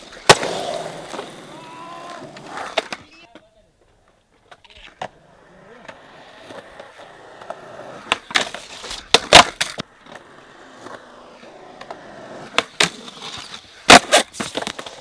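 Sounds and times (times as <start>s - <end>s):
skateboard clacking and grinding ledge: 0.0s - 3.4s, 4.4s - 15.0s
skateboard wheels rolling on concrete: 0.0s - 15.0s.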